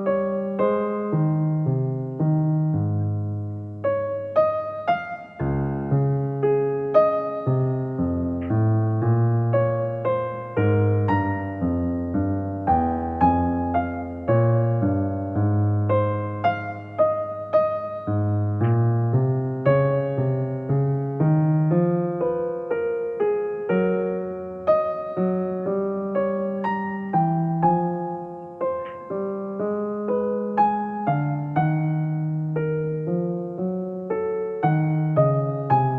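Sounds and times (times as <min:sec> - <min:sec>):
gentle piano melody: 0:00.0 - 0:35.9.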